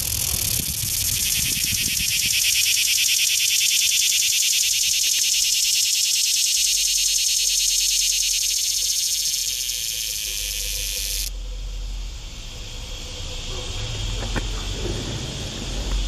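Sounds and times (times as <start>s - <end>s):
faint high buzz: 0.0s - 13.8s
cicada buzzing: 0.0s - 16.0s.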